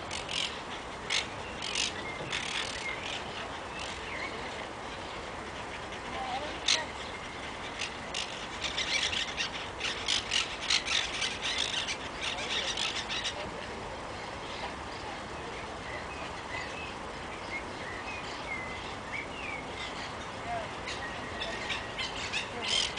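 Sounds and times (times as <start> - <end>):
parakeets screeching chatter: 0.1 - 22.9.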